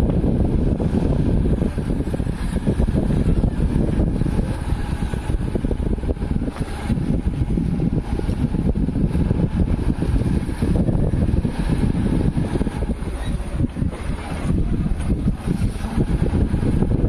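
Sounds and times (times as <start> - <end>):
vehicle rumble on rough road: 0.0 - 17.0.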